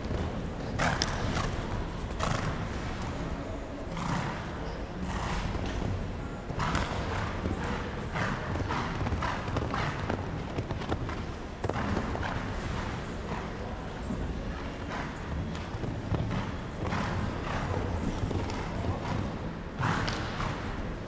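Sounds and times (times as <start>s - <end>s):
horse hoofbeats on sand: 0.0s - 3.1s, 5.0s - 20.8s.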